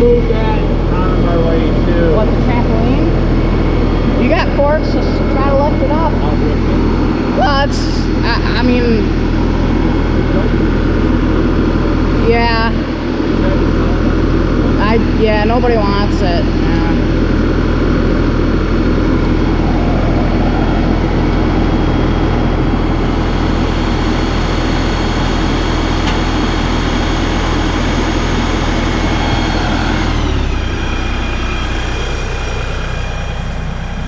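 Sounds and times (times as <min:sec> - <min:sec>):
high whine: 0:00.0 - 0:34.0
tractor diesel engine running: 0:00.0 - 0:34.0.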